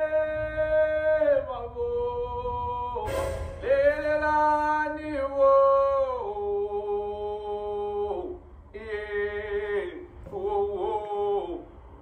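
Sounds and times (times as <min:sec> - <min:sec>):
man singing unaccompanied: 0:00.0 - 0:11.7.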